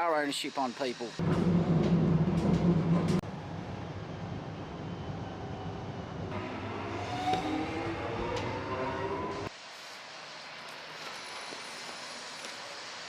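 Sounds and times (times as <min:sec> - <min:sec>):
electric train rumble and whine: 0:01.0 - 0:13.0.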